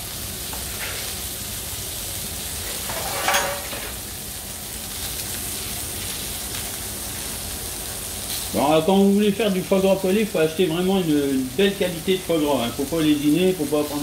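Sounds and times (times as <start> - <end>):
meat sizzling on griddle: 0.0 - 14.0.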